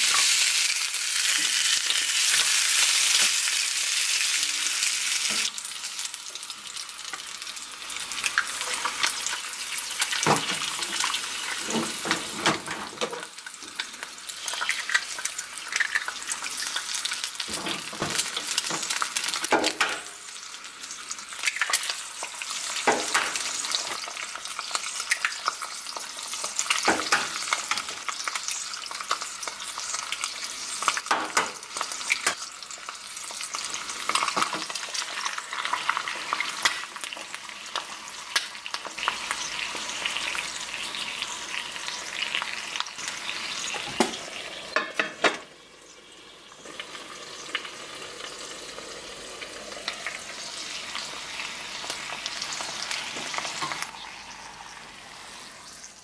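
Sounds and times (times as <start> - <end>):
bacon and eggs sizzling in a pan: 0.0 - 56.0.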